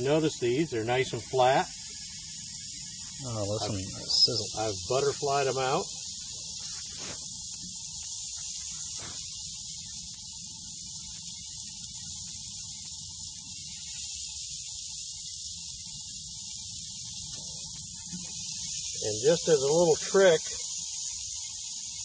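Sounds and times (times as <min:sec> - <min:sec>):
shrimp sizzling on a grill: 0:00.0 - 0:22.0.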